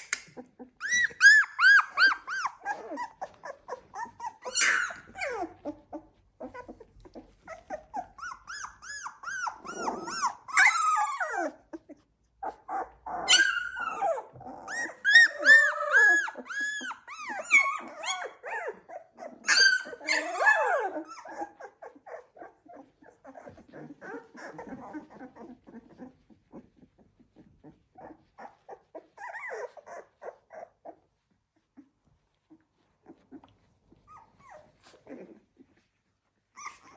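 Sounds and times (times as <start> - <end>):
puppies whining and squeaking: 0.0 - 36.9.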